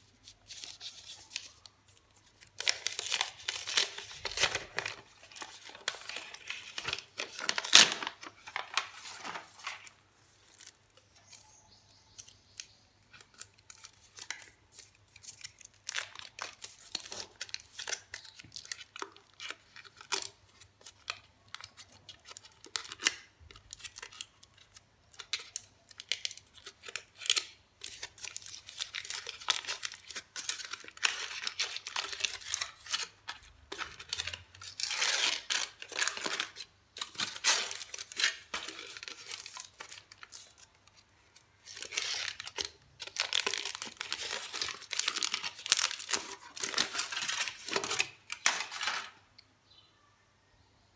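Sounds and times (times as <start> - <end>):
foil wrapper crinkling and tearing: 0.3 - 49.2.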